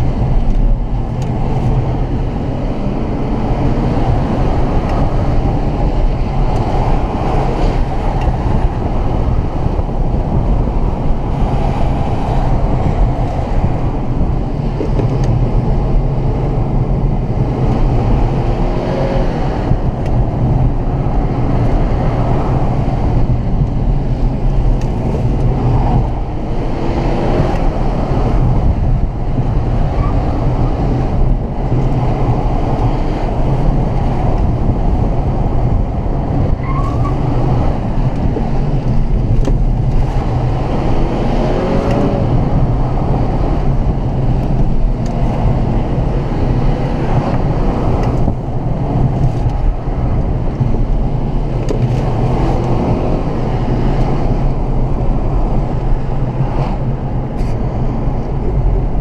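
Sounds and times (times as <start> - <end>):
car engine droning: 0.0 - 59.0
tyre and road noise: 0.0 - 59.0.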